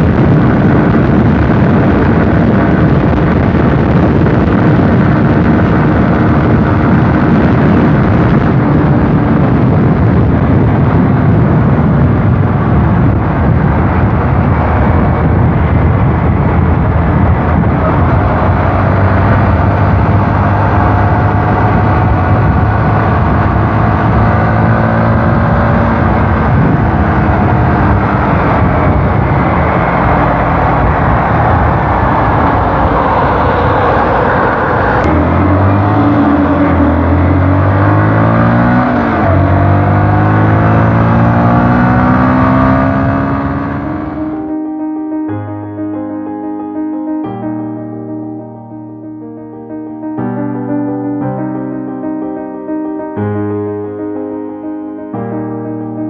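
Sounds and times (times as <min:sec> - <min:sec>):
vehicle engine running: 0:00.0 - 0:45.0
loud rushing noise: 0:00.0 - 0:56.0.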